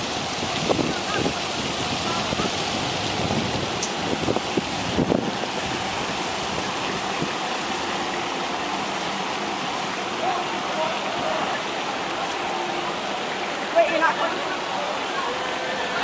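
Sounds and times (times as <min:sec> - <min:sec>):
pond fountain splashing: 0:00.0 - 0:16.0.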